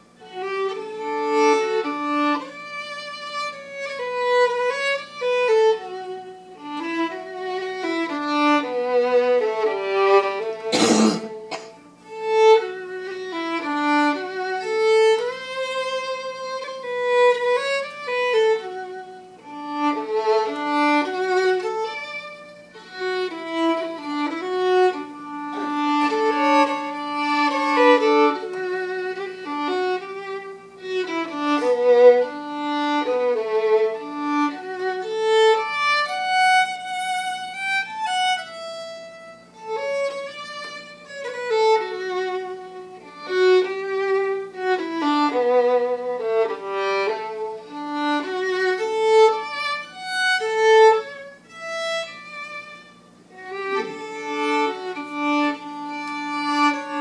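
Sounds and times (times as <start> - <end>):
solo fiddle melody: 0.0 - 57.0.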